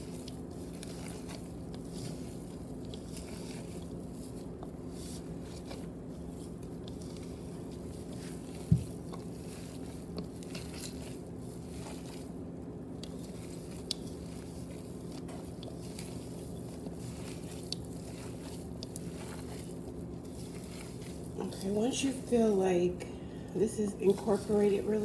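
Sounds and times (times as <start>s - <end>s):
hands kneading wet meat mixture: 0.0s - 23.0s, 23.8s - 25.0s
steady low hum: 0.0s - 25.0s.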